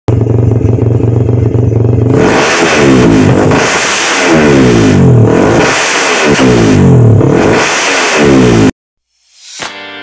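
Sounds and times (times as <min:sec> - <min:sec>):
motorcycle engine revving: 0:00.1 - 0:08.8.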